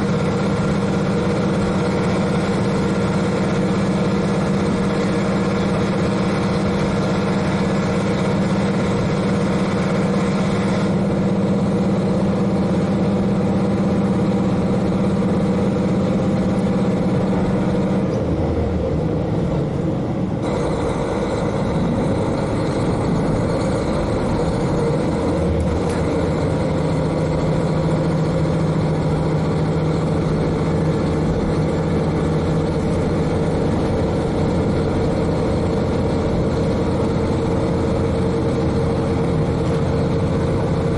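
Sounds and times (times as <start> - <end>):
diesel railcar engine running: 0.0 - 40.9.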